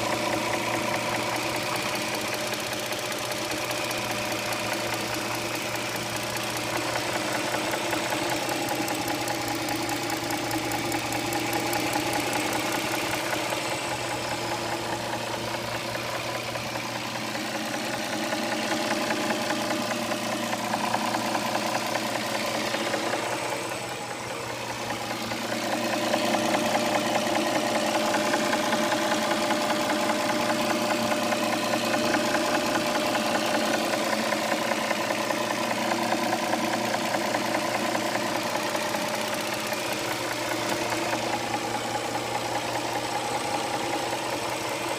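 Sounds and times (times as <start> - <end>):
car engine running: 0.0 - 44.9
fast ticking engine knock: 0.0 - 44.9.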